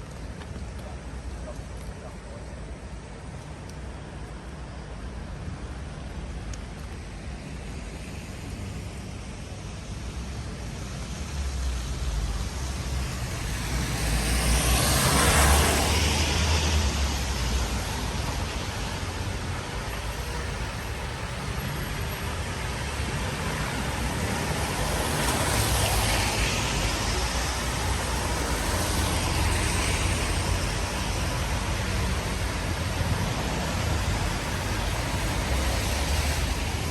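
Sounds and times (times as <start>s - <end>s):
rain hiss: 0.0s - 36.9s
tyres hissing on wet street: 0.0s - 36.9s.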